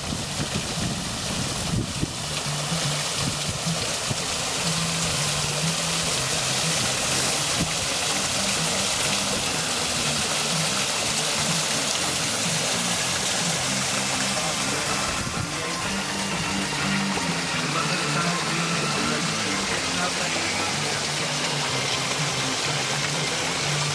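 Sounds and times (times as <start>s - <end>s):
water pouring down waterfall: 0.0s - 23.9s
low background music: 0.2s - 23.9s.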